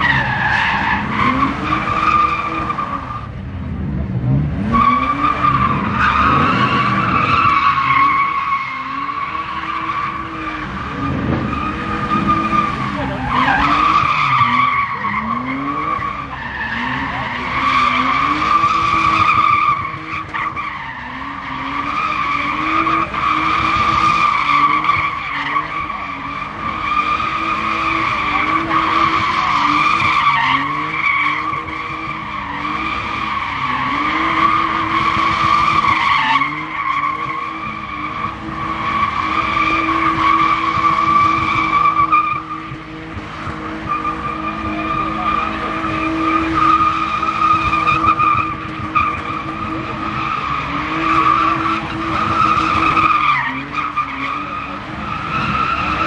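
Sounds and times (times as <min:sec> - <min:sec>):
car engine revving: 0:00.0 - 0:56.0
tyres squealing: 0:04.8 - 0:42.8, 0:43.7 - 0:56.0.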